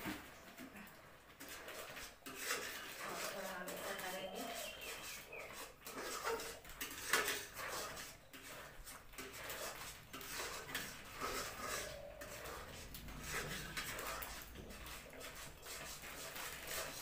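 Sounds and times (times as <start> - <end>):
metal ladle scraping pan: 1.3 - 17.0.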